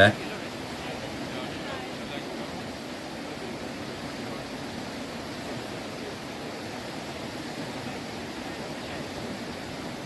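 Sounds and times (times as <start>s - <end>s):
fast river water rushing: 0.0s - 10.0s.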